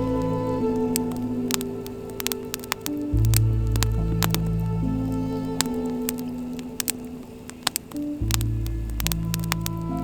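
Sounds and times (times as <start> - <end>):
sharp clicks: 0.0 - 9.9
background music low chords: 0.0 - 10.0.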